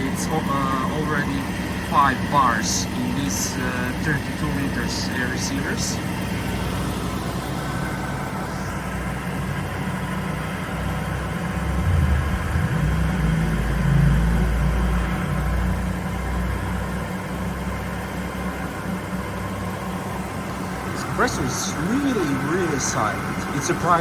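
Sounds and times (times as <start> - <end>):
air compressor humming: 0.0 - 24.0.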